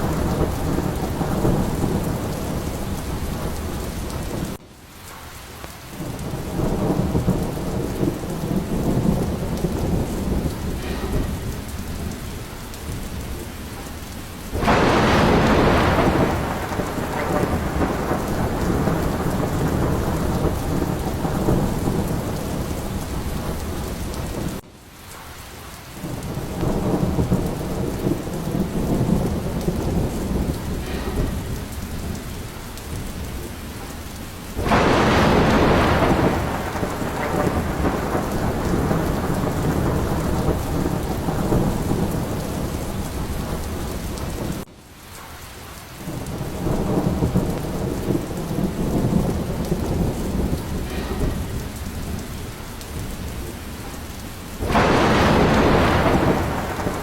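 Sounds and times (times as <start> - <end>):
rolling thunder: 0.0 - 4.6, 5.9 - 24.6, 26.0 - 44.7, 45.9 - 57.0
sharp loud thunderclap: 0.0 - 4.6, 6.0 - 24.6, 26.0 - 44.7, 46.1 - 57.0
steady rain: 0.0 - 57.0.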